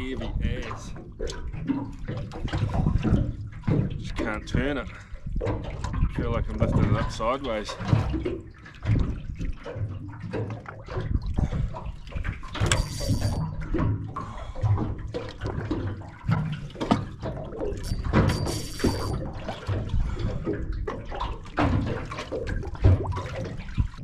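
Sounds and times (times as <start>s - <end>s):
water sloshing against boat: 0.0s - 24.0s.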